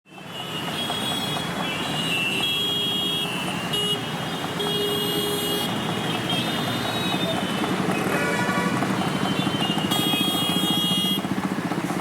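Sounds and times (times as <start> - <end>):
din of engines: 0.1 - 12.0
vehicle horns honking: 0.3 - 11.4.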